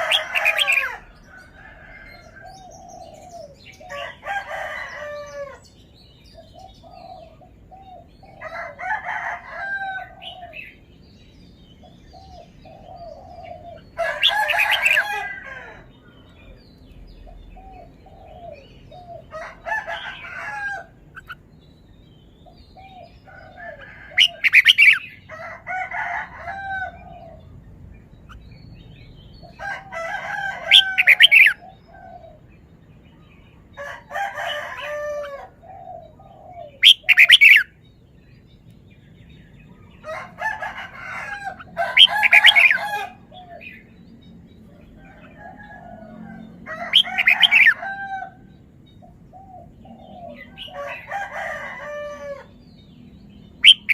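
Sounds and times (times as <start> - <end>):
bird singing song phrases: 0.0 - 53.9.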